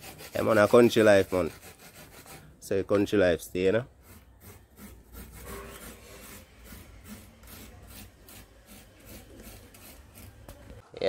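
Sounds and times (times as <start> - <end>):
coconut grating strokes: 0.0 - 2.6, 3.6 - 10.8.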